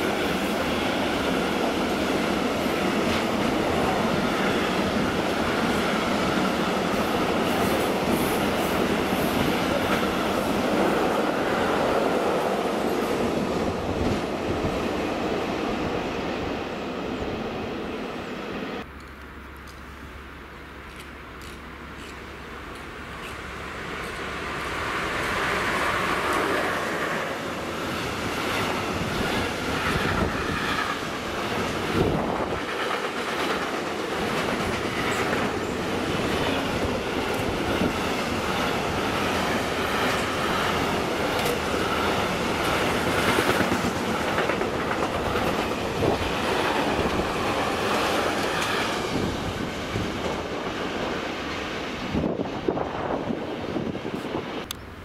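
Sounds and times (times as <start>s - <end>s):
freight train rolling by: 0.0s - 55.0s.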